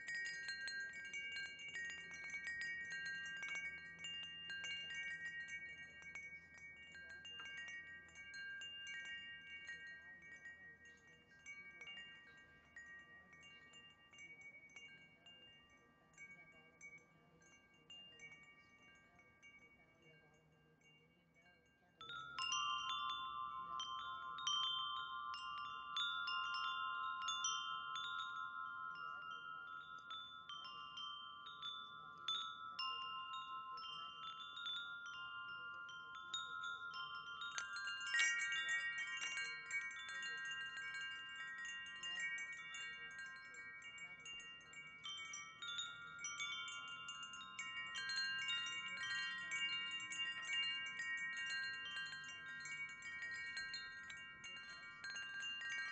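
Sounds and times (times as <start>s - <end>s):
wind chimes ringing: 0.0s - 55.9s.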